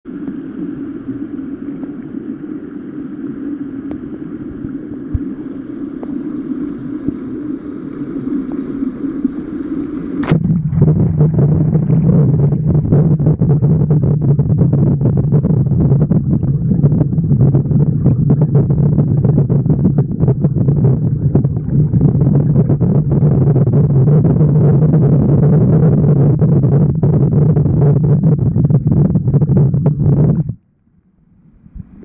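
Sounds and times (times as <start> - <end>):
muffled underwater rumble: 0.1 - 32.0.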